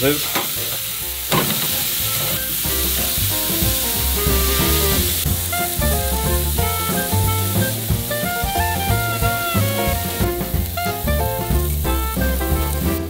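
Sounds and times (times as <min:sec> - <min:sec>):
steaks sizzling on grill: 0:00.0 - 0:13.0
background music: 0:00.8 - 0:13.0.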